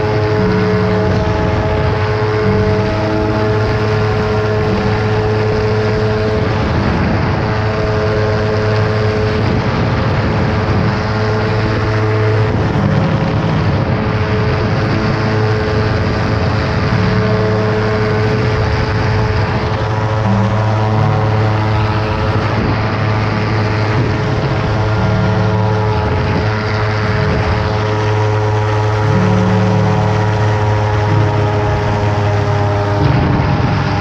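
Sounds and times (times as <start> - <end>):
aircraft engine and propeller drone: 0.0 - 34.0.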